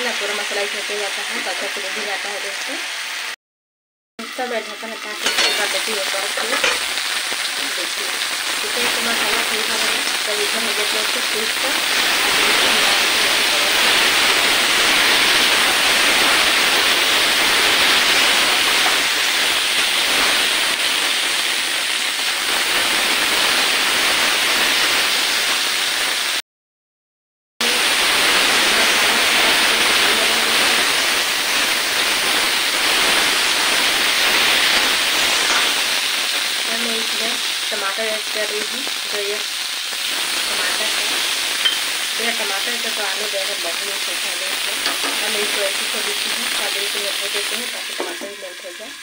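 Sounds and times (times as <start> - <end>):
food sizzling in oil: 0.0 - 3.4, 4.2 - 26.4, 27.6 - 49.0.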